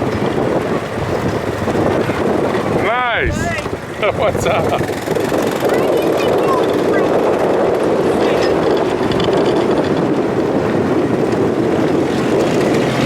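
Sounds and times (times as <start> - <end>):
truck engine running hard: 0.0 - 13.0.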